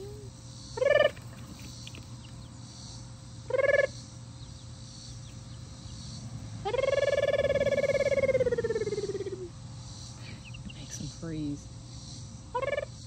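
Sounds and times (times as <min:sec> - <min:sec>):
young chickens calling: 0:00.0 - 0:13.0.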